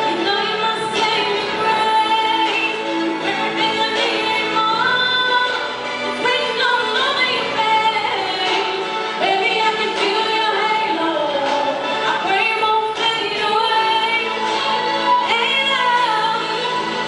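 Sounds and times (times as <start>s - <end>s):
woman singing with accompaniment: 0.0s - 17.0s.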